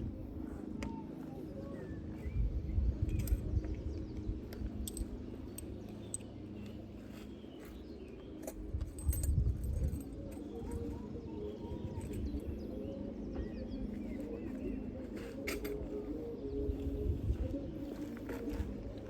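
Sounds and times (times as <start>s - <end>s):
birds cooing and chirping: 0.0s - 19.0s.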